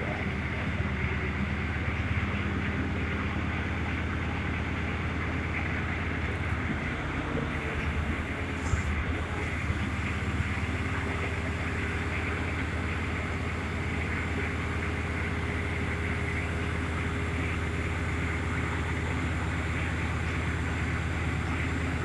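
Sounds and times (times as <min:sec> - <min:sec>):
diesel engine at high idle: 0:00.0 - 0:22.0.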